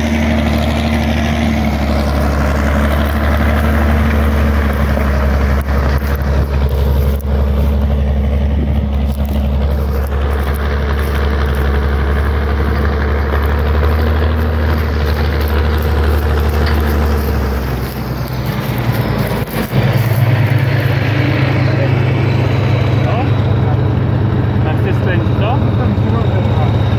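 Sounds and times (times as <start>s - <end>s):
tractor diesel engine droning: 0.0s - 26.9s.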